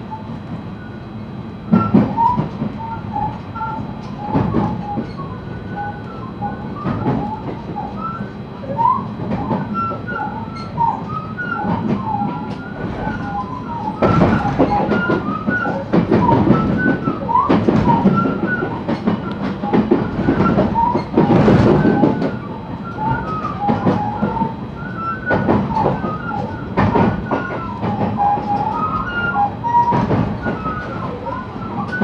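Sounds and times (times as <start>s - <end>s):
electric train running slowly: 0.0s - 32.0s
high squeals from train wheels: 0.1s - 32.0s.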